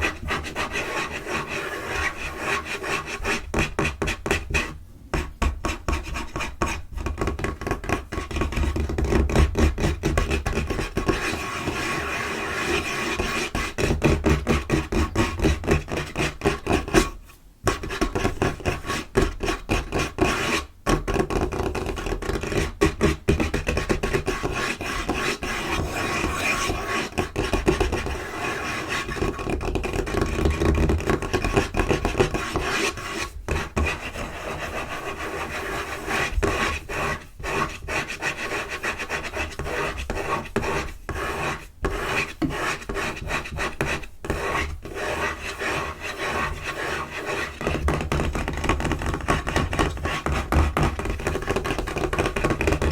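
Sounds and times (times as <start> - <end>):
hands scratching and tapping table: 0.0 - 52.9.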